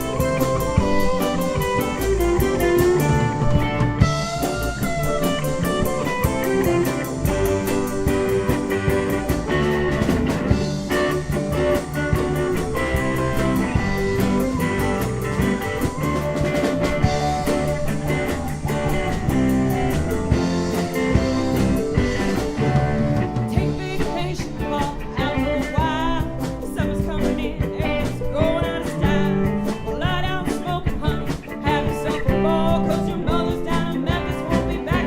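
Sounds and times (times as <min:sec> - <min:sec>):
bass: 0:00.0 - 0:35.0
drum kit beating: 0:00.0 - 0:35.0
electric guitar: 0:00.0 - 0:35.0
keyboards: 0:00.0 - 0:35.0
mandolin: 0:00.0 - 0:35.0.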